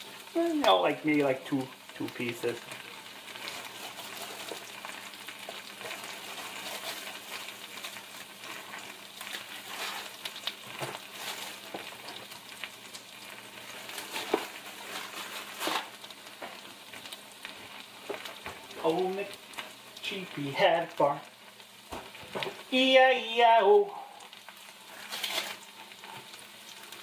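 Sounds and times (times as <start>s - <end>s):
food sizzling in a skillet: 0.0s - 27.0s.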